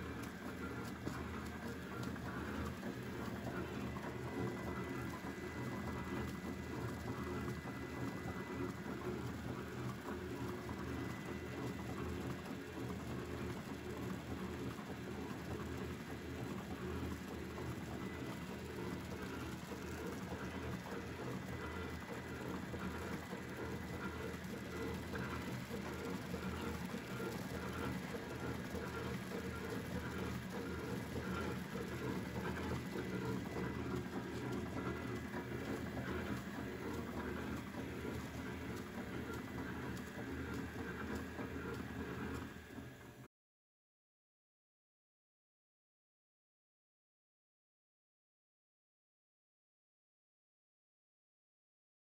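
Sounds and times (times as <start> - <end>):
wrapping machine humming: 0.0 - 43.1.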